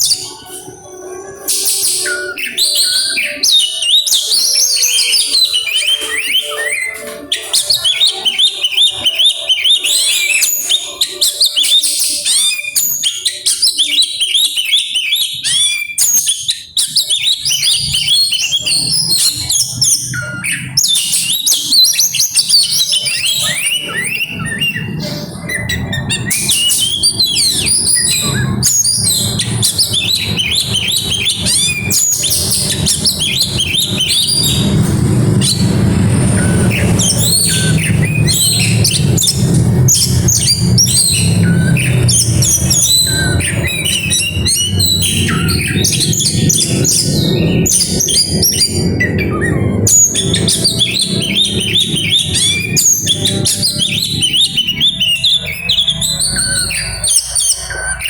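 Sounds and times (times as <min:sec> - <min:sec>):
songbird singing rapidly: 0:00.0 - 0:58.0.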